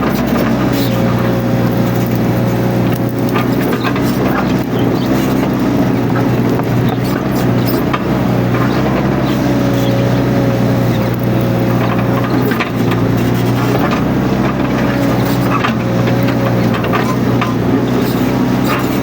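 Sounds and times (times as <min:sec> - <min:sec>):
excavator diesel engine running: 0:00.0 - 0:19.0
sharp clicks and cracks: 0:00.0 - 0:19.0.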